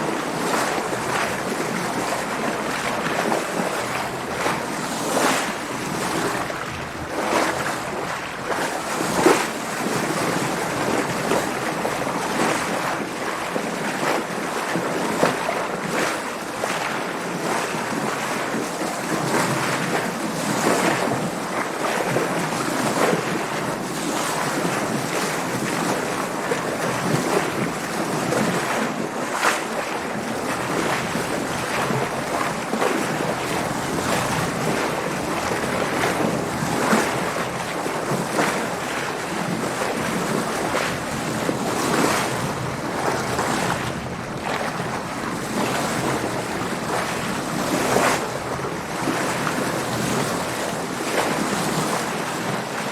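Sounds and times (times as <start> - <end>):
water splashing against boat hull: 0.0 - 52.9.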